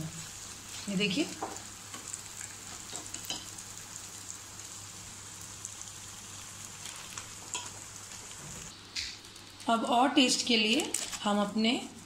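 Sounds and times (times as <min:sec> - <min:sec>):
chips sizzling in hot oil: 0:00.0 - 0:12.0.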